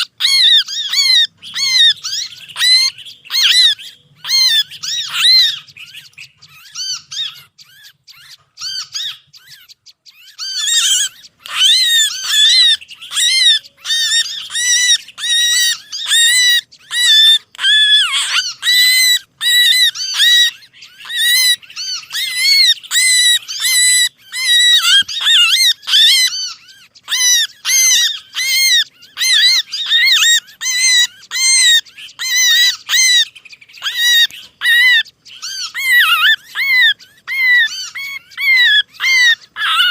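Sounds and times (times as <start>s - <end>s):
songbirds chip calls: 0.0s - 39.9s.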